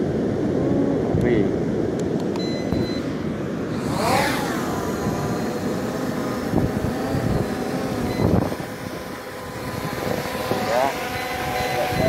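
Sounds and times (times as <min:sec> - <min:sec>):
drone motors whining and buzzing: 0:02.2 - 0:12.0.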